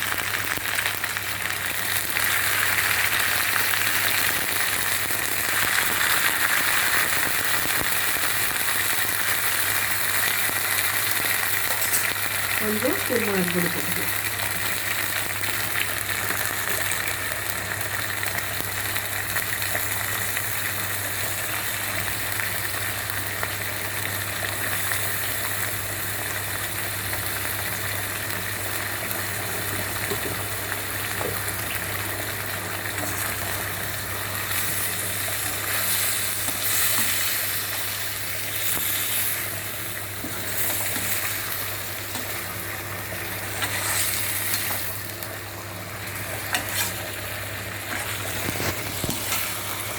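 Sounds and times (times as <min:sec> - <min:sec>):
meatballs sizzling in oil: 0:00.0 - 0:49.9.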